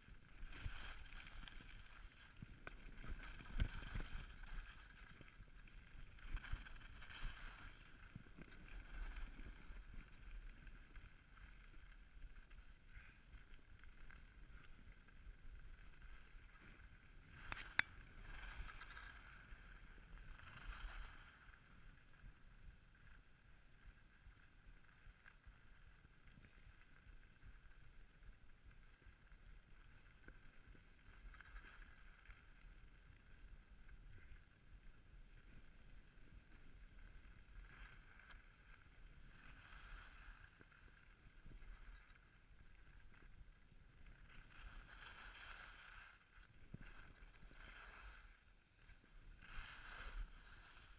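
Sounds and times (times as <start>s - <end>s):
skis scraping on snow: 0.1s - 50.9s.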